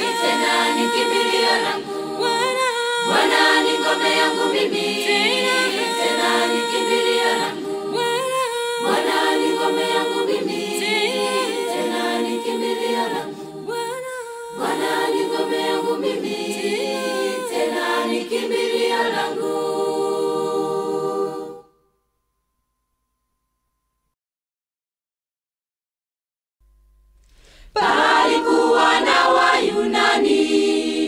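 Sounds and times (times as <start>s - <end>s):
unaccompanied choir singing: 0.0s - 21.8s, 27.7s - 31.0s.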